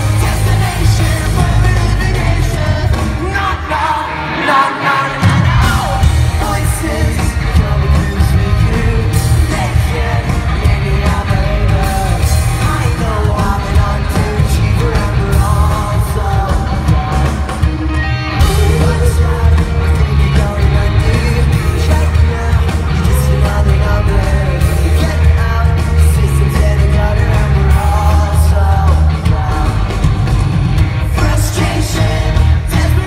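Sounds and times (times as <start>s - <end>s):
live pop-punk band: 0.0s - 33.0s.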